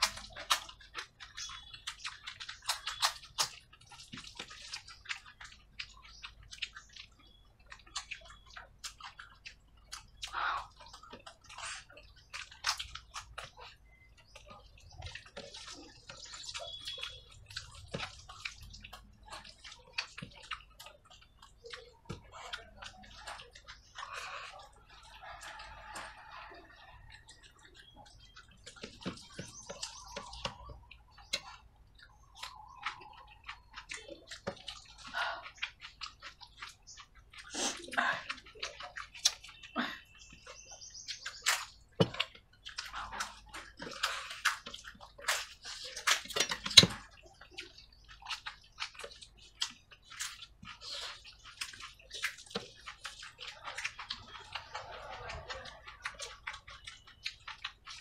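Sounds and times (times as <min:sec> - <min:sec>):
chewing and mouth sounds: 0:00.0 - 0:58.0
fingers squishing wet rice: 0:00.0 - 0:58.0.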